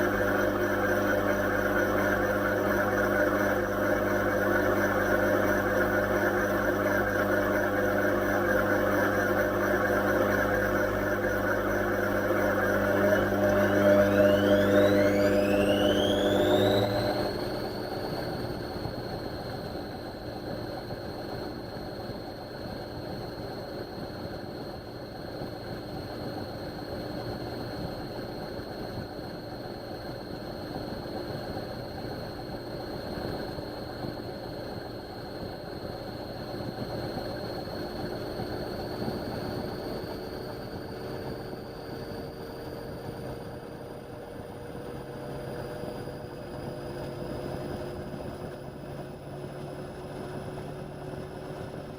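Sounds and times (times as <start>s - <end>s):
washing machine spinning: 0.0s - 51.9s.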